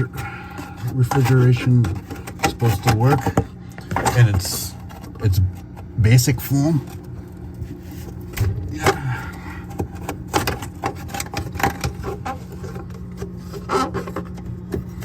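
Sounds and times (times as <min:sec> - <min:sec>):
ice and plastic knocking and scraping: 0:00.0 - 0:05.9, 0:06.8 - 0:15.0
low steady hum: 0:00.0 - 0:15.0.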